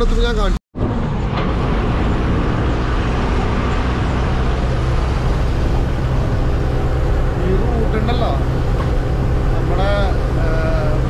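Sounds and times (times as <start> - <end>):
bus diesel engine running: 0.0 - 11.0
road noise: 0.0 - 11.0.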